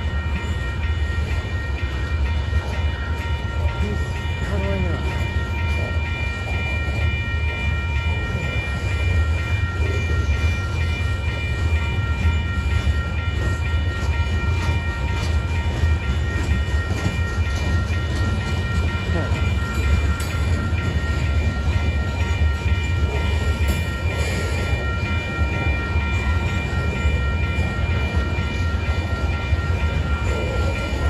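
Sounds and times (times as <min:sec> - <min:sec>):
thin steady ringing tones: 0:00.0 - 0:31.0
train wheels rumbling on rails: 0:00.0 - 0:31.0.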